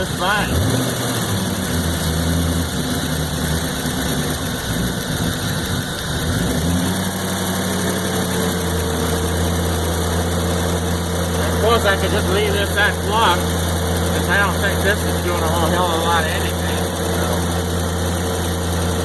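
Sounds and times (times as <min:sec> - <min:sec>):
car engine revving: 0:00.0 - 0:19.0
rough stuttering engine idle: 0:00.0 - 0:19.0.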